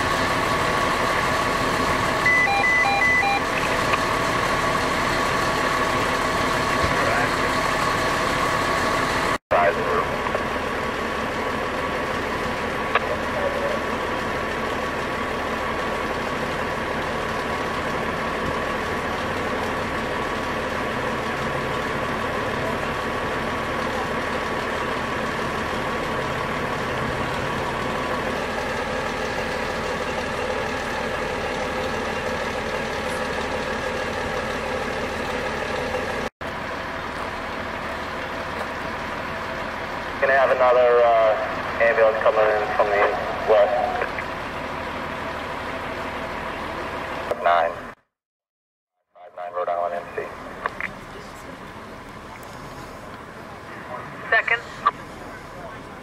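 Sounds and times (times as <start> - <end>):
emergency vehicles idling hum: 0.0 - 48.0, 49.2 - 56.0.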